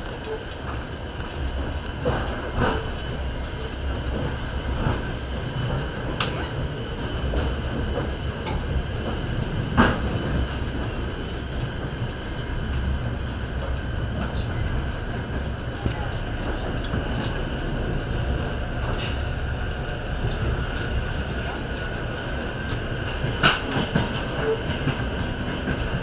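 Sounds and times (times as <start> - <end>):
train wheels clacking: 0.0 - 26.0
train wheels rumbling on track: 0.0 - 26.0.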